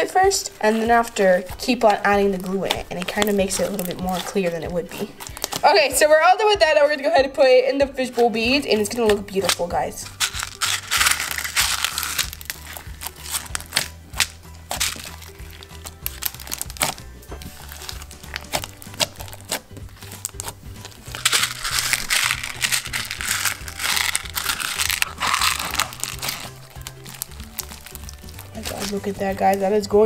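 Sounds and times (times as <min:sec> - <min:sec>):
background music: 0:00.0 - 0:30.0
crunchy slime crackling: 0:00.6 - 0:05.8, 0:09.0 - 0:30.0.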